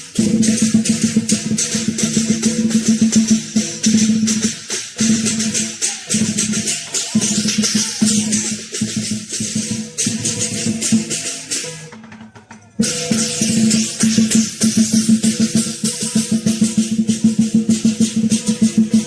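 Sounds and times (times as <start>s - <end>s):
cymbals clashing: 0.0s - 19.0s
drum beating: 0.0s - 19.0s.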